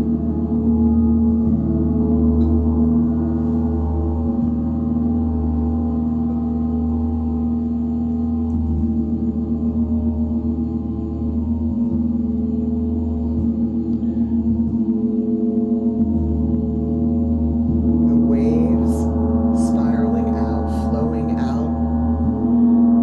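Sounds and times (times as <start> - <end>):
gong ringing drone: 0.0 - 23.0
low hum: 0.0 - 23.0.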